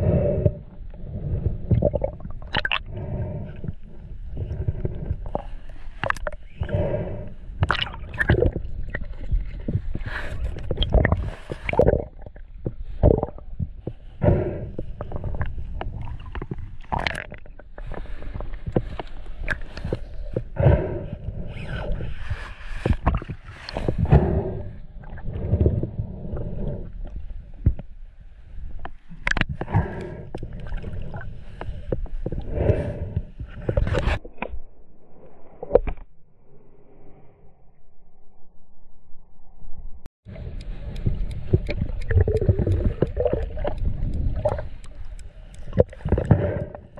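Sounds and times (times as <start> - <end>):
gurgling underwater water: 0.0 - 34.2, 40.2 - 46.9.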